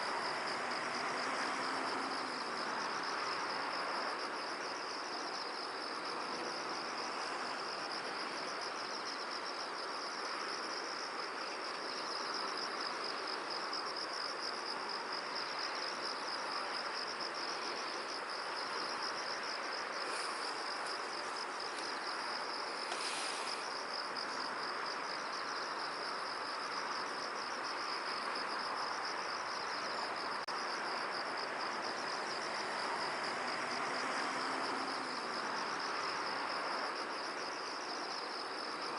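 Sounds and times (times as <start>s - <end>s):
rustling hiss: 0.0s - 38.9s.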